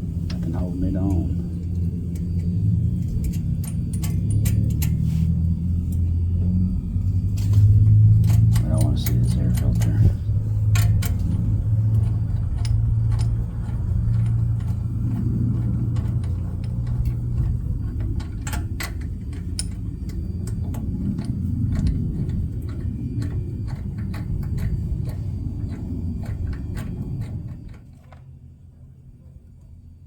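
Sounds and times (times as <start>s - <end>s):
steady low hum: 0.0s - 30.0s
small metal parts clicking: 1.6s - 5.0s, 7.3s - 28.3s.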